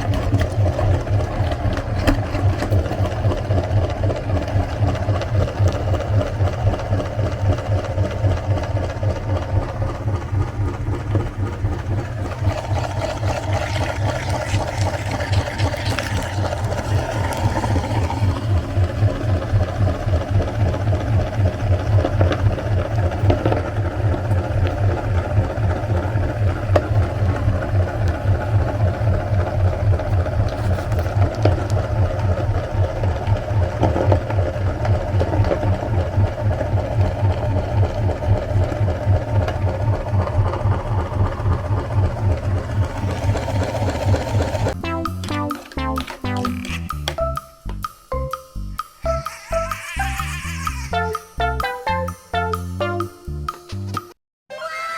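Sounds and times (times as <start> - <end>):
electric meat grinder running: 0.0 - 44.8, 49.1 - 51.0.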